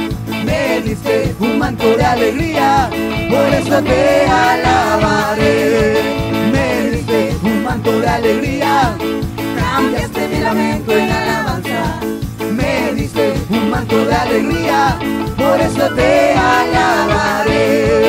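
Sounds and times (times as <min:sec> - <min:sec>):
steady drum beat: 0:00.0 - 0:18.0
worship band playing: 0:00.0 - 0:18.0.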